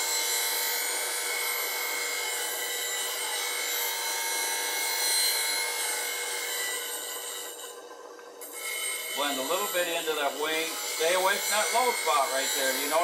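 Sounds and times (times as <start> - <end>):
bench grinder grinding steel: 0.0 - 13.0.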